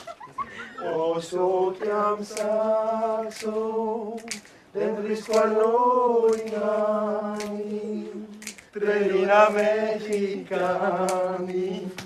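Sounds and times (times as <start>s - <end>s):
men singing a cappella: 0.6s - 12.0s.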